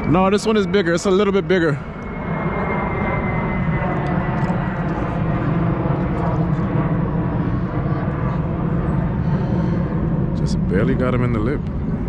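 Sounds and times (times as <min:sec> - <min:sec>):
airplane passing overhead: 0:00.0 - 0:12.0.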